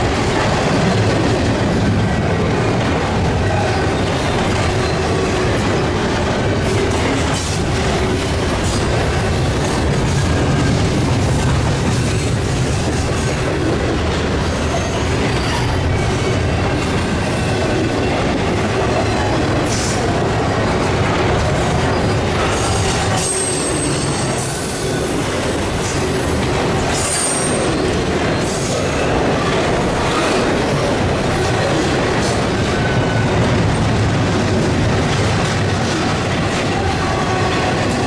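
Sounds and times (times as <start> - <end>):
steel wheels rumbling on rail: 0.0 - 38.0.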